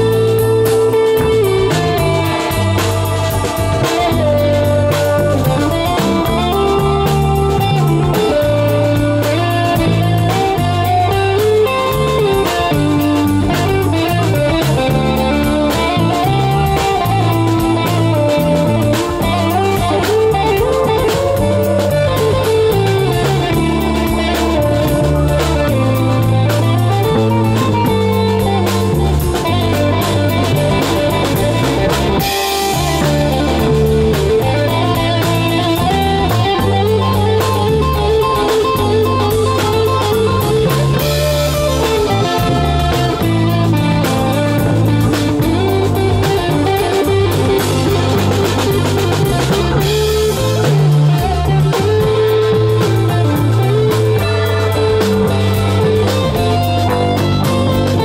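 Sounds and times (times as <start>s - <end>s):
bass line: 0.0s - 58.0s
drum kit: 0.0s - 58.0s
electric guitar lead: 0.0s - 58.0s.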